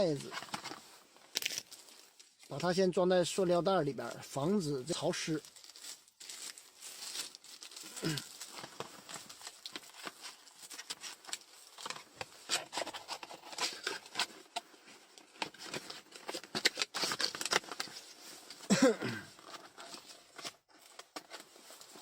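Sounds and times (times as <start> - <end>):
plastic bag crinkling: 0.0 - 2.7, 5.0 - 22.0.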